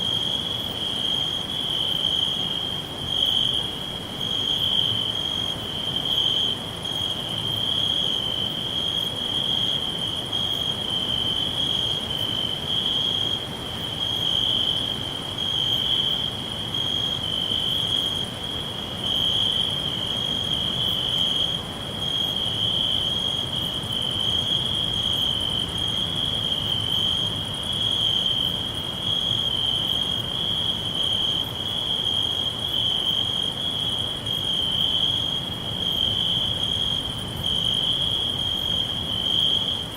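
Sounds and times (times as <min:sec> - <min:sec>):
crickets trilling: 0:00.0 - 0:39.9
faint higher insect chirping: 0:00.0 - 0:39.9.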